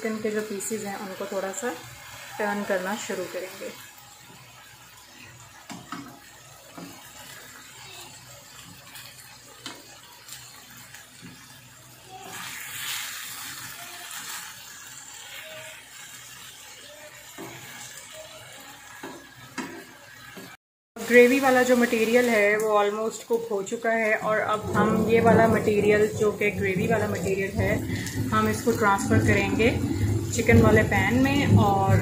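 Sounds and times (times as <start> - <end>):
chicken sizzling in oil: 0.0 - 32.0.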